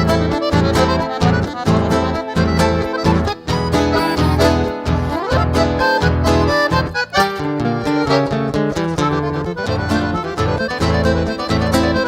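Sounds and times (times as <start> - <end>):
accordion melody: 0.0 - 12.0
acoustic guitar accompaniment: 0.0 - 12.0.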